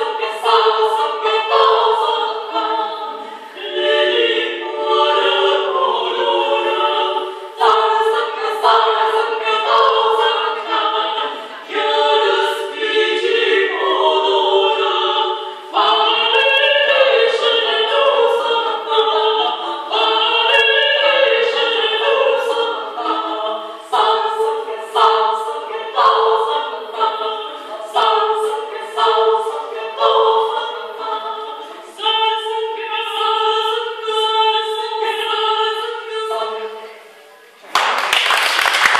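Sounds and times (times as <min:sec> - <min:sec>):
women's vocal ensemble singing: 0:00.0 - 0:37.2.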